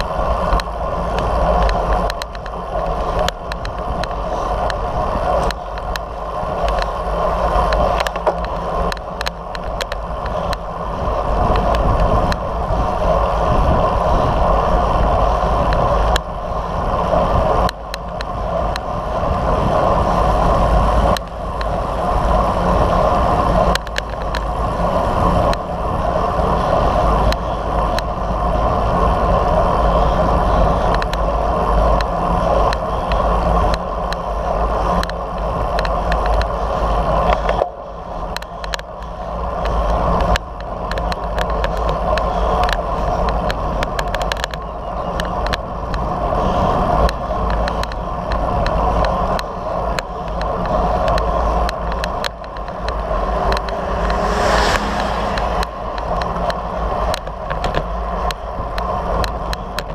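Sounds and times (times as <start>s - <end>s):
bicycle tyres on asphalt: 0.0s - 59.9s
wind rushing over microphone: 0.0s - 59.9s.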